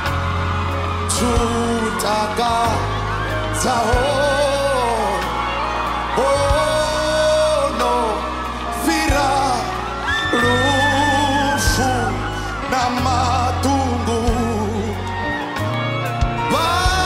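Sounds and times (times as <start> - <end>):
bass notes: 0.0 - 17.0
man singing: 1.0 - 15.6, 16.4 - 17.0.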